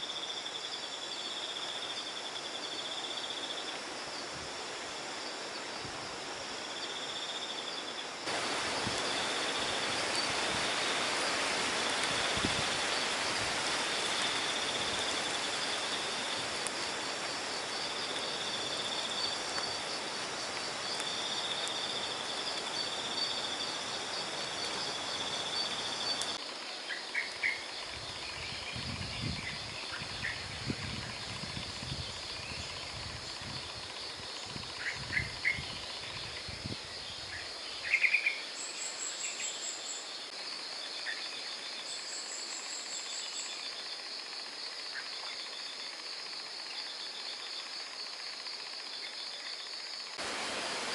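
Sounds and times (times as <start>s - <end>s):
night insects chirping: 0.0s - 50.9s.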